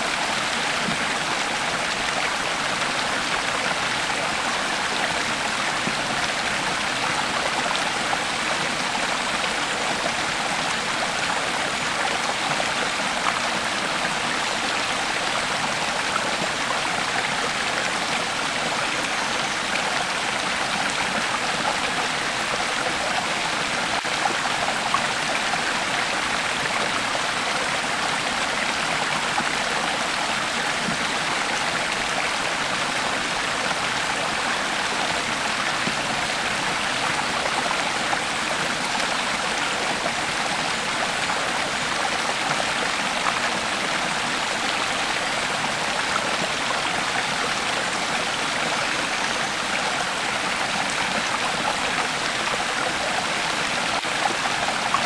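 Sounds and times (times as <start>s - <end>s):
creek water flowing over rocks: 0.0s - 55.0s.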